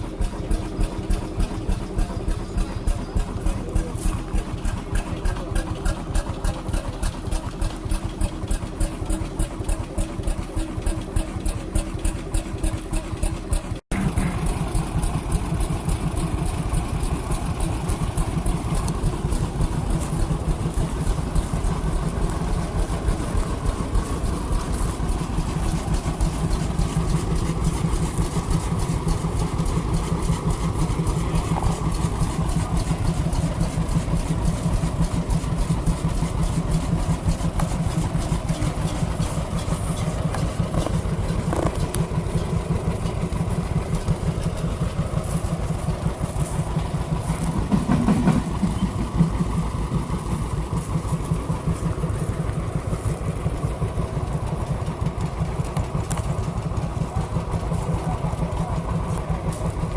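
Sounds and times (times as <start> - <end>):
engine running with faster beat: 0.0 - 59.9
vintage engines running: 0.0 - 59.9.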